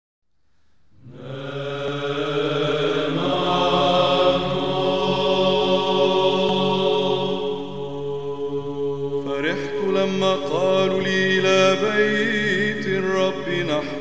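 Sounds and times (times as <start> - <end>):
slow vocal chanting: 1.0 - 14.0.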